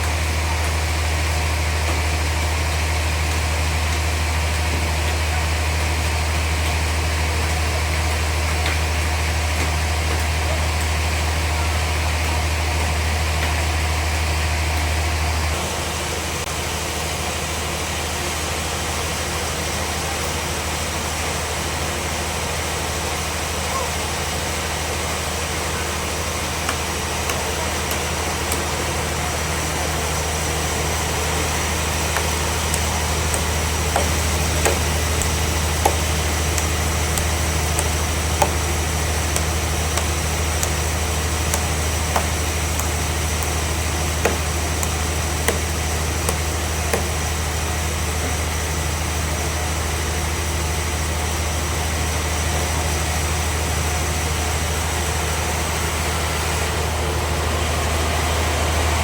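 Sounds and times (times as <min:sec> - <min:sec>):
high whine: 0:00.0 - 0:59.0
sawmill machinery humming: 0:00.0 - 0:59.0.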